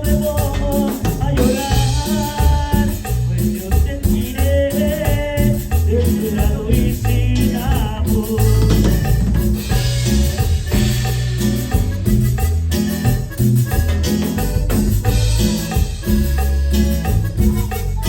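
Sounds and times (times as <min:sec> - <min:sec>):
live band playing latin music: 0:00.0 - 0:18.0.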